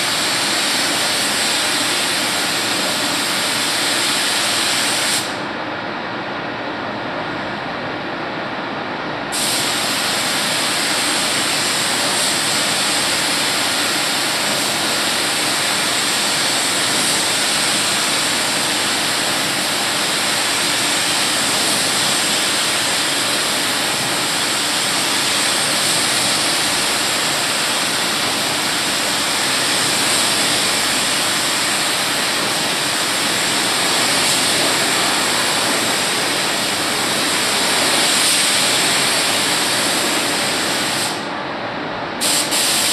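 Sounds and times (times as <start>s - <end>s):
paint spray gun hissing: 0.0s - 5.4s, 9.3s - 41.2s, 42.2s - 42.9s.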